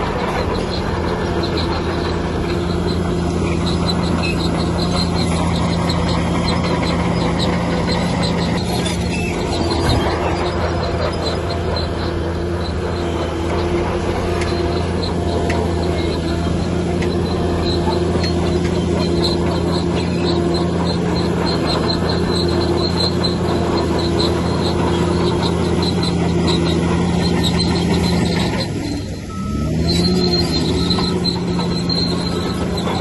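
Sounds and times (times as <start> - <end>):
bulldozer diesel engine running: 0.0 - 33.0
metallic squeal and clatter of tracks: 0.0 - 33.0.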